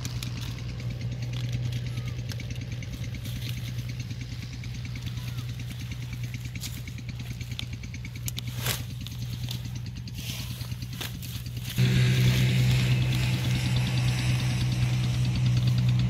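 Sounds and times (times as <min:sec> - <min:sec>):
engine droning: 0:00.0 - 0:16.0
leafy plants rustling and snapping: 0:00.0 - 0:16.0.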